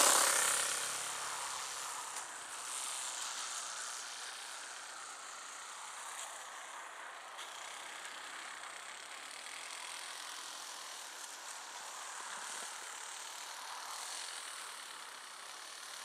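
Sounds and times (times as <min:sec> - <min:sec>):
distant model aeroplane engine buzz: 0:00.0 - 0:16.0.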